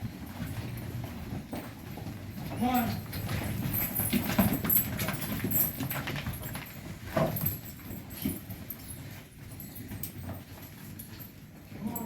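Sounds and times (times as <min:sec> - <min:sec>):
cow hooves clopping: 0:00.0 - 0:12.0.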